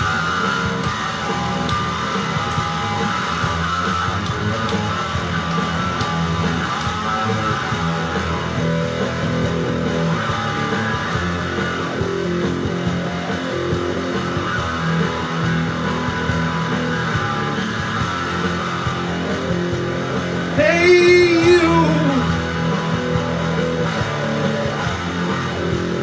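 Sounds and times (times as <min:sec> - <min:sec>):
instrumental rock music: 0:00.0 - 0:26.0.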